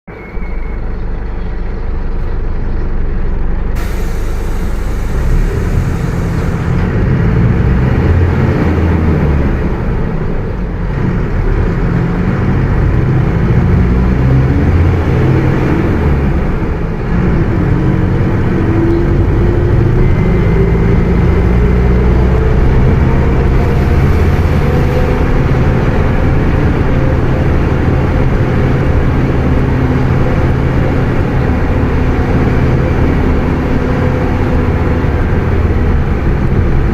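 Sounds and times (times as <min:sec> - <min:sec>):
bus diesel engine shifting gears: 0:00.1 - 0:36.9
drivetrain whine: 0:00.1 - 0:36.9.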